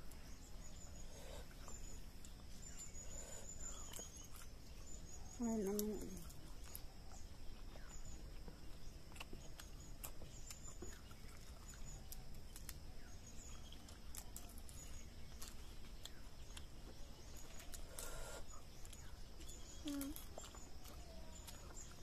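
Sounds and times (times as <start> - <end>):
faint birds chirping: 0.0 - 22.0
soft clicks of leaves chewed: 0.0 - 22.0
steady high-pitched hum: 0.0 - 22.0.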